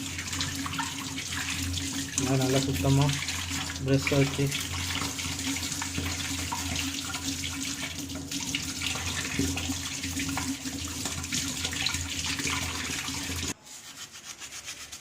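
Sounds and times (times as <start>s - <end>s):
tap water running into sink: 0.0s - 13.6s.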